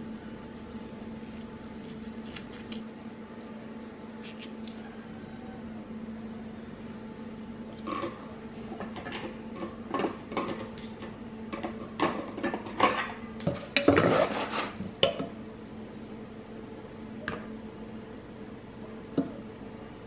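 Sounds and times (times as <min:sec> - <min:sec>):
steady low hum: 0:00.0 - 0:13.9, 0:14.7 - 0:20.0.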